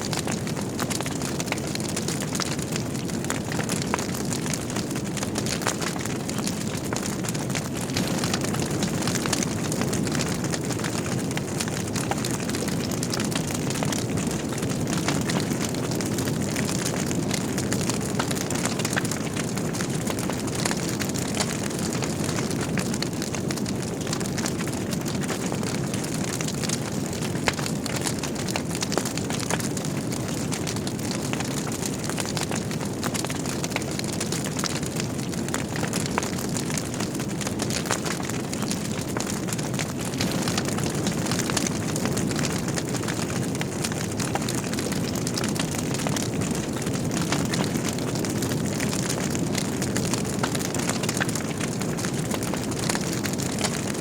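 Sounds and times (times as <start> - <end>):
wood crackles and pops: 0.0 - 54.0
fire flames rushing: 0.1 - 53.9.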